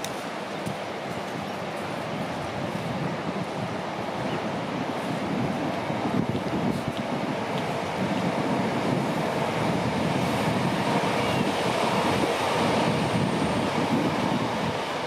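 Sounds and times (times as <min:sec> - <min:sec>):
train rumbling: 0:00.0 - 0:15.0
wind: 0:00.0 - 0:15.0.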